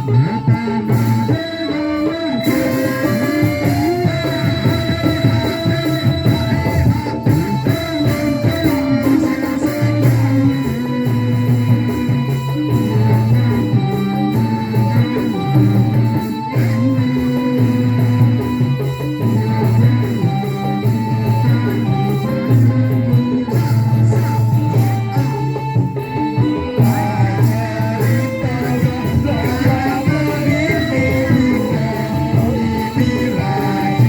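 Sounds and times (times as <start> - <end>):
melody of held notes: 0.0 - 34.0.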